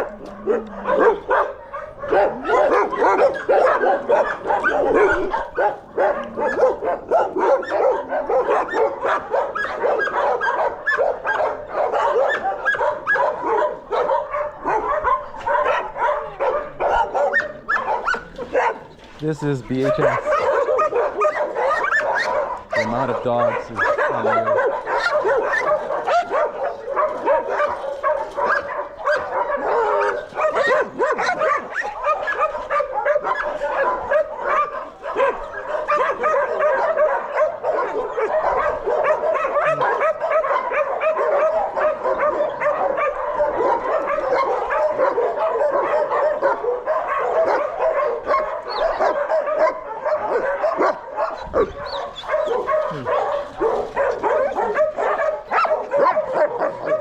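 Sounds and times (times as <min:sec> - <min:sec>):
many dogs barking and yipping: 0:00.0 - 0:57.0.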